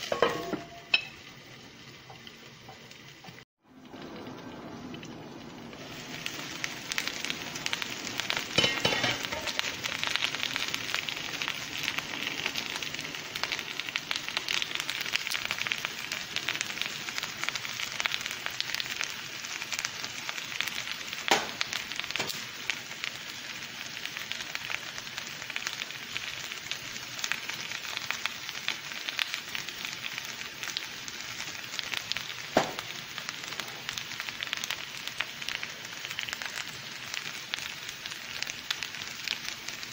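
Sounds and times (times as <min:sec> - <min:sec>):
potato sizzling in a pan: 0:00.0 - 0:39.9.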